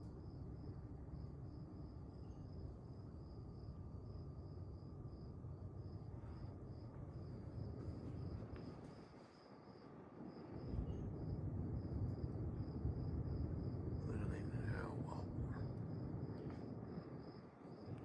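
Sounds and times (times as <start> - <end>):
ceiling fan air rush: 0.0 - 18.0
cricket chirping: 0.0 - 18.0.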